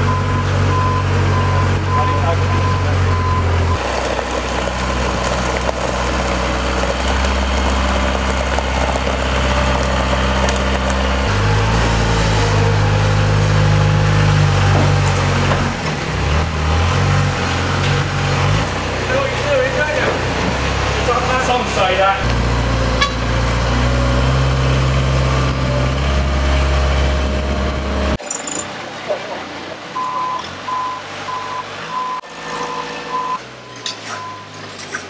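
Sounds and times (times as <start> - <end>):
forklift engine running: 0.0 - 34.6.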